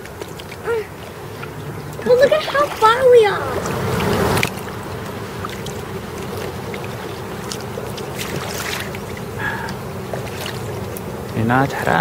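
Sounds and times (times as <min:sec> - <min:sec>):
kayak paddle strokes in water: 0:00.0 - 0:11.4
small splashes and drips: 0:00.0 - 0:11.4
wind: 0:00.0 - 0:12.0.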